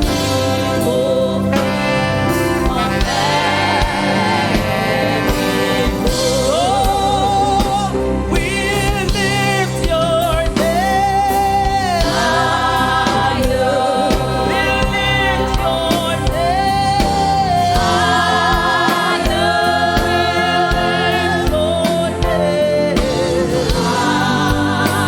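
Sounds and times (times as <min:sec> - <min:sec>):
gospel choir singing: 0:00.0 - 0:25.0
live band with steady beat: 0:00.0 - 0:25.0.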